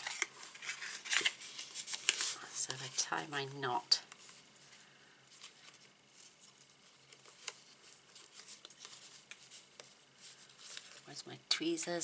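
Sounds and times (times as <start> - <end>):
hands handling thread and card: 0.0 - 3.0, 4.1 - 11.1.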